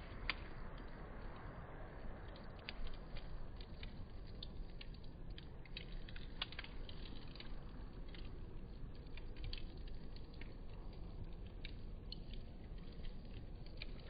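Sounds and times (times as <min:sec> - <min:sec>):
steady low rumble: 0:00.0 - 0:14.0
wood fire crackling: 0:00.0 - 0:14.0.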